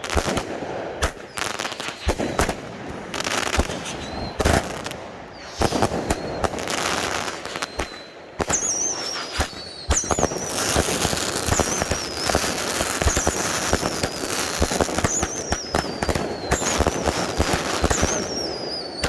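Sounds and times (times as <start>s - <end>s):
fireworks bangs and crackling: 0.0s - 19.0s
fireworks whistling: 0.0s - 19.0s.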